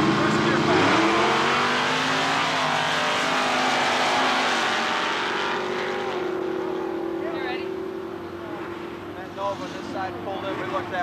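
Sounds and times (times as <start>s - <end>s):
race cars accelerating: 0.0s - 11.0s.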